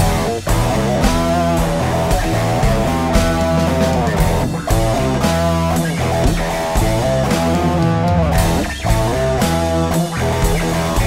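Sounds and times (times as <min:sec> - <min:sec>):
bass guitar: 0:00.0 - 0:11.0
drum kit: 0:00.0 - 0:11.0
electric guitar sliding notes: 0:00.0 - 0:11.0.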